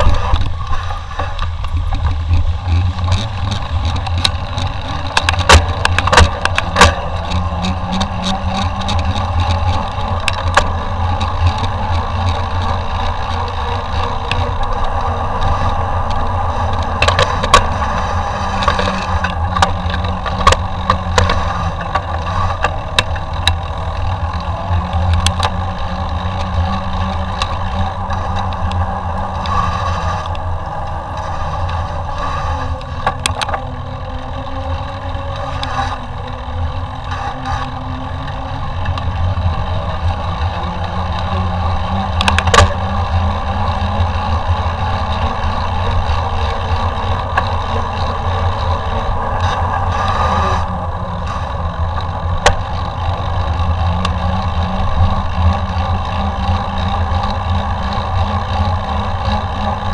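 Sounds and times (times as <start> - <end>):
bike tyres rolling rumble: 0.0 - 59.9.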